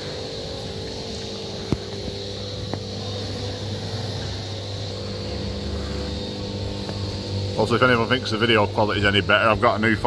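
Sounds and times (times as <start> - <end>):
barn machinery humming: 0.0 - 10.0.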